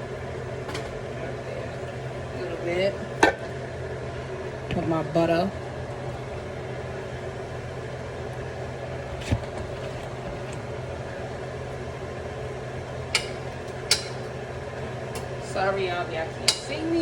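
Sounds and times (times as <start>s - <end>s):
kitchen appliance humming: 0.0s - 17.0s.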